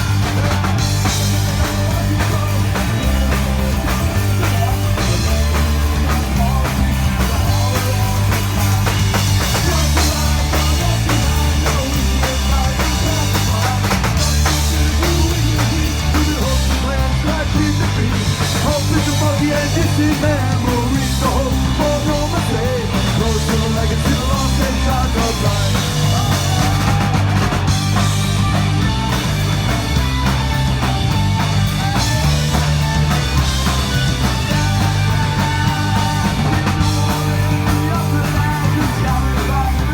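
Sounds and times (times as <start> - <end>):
punk rock band playing: 0.0 - 39.9.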